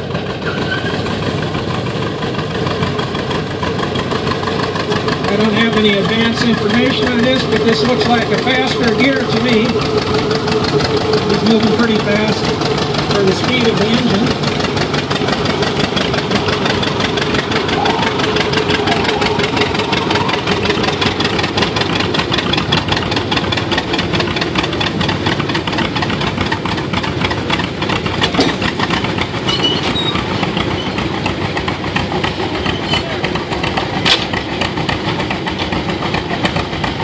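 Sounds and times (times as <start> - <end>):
tractor engine popping: 0.0 - 37.0.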